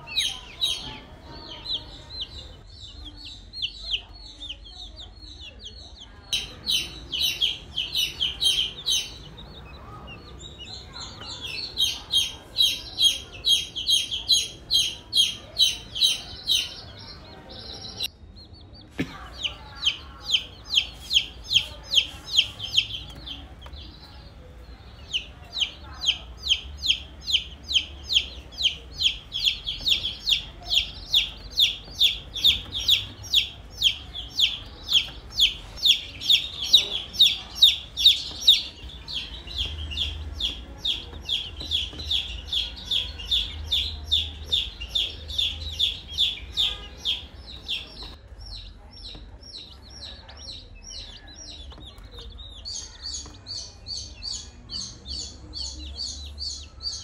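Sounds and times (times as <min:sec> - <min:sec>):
baby chicks peeping: 0:00.0 - 0:57.0.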